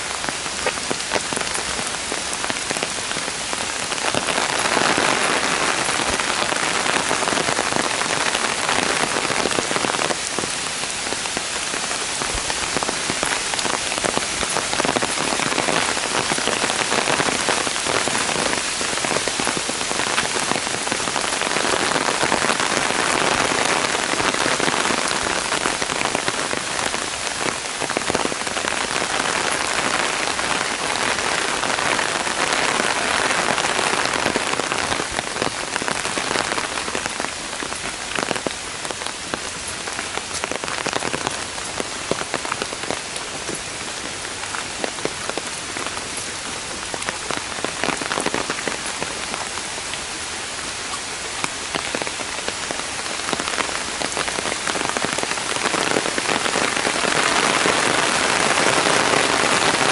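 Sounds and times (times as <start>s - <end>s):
heavy rain on pavement and foliage: 0.0s - 59.9s.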